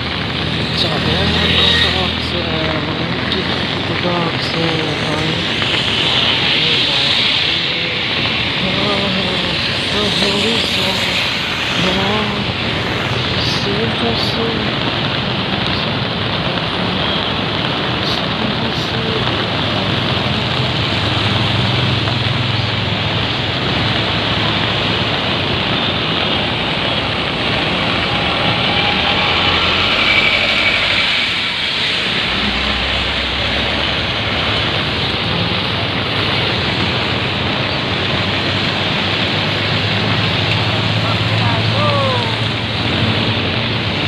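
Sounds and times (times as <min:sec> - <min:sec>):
low hum: 0:00.0 - 0:15.4, 0:19.4 - 0:44.0
floodwater rushing: 0:00.0 - 0:44.0.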